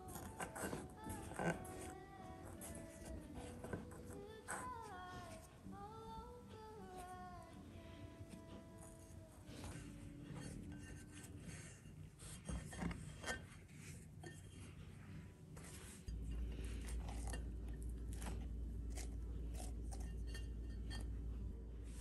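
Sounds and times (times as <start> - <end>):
hands kneading dough: 0.0 - 22.0
steady low hum: 0.0 - 22.0.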